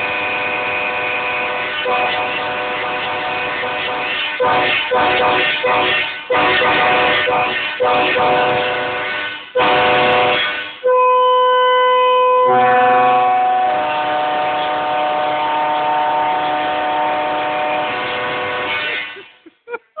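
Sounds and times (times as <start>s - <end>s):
train air horn chord: 0.0s - 19.4s.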